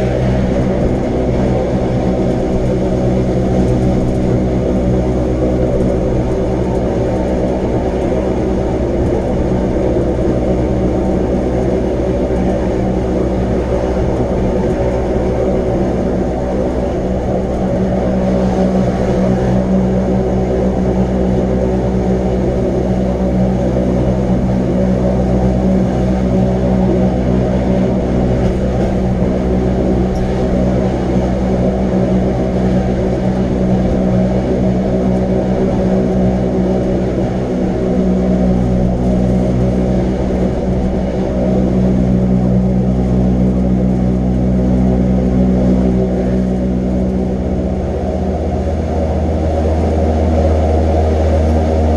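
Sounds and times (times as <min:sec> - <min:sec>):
train running drone: 0:00.0 - 0:51.9.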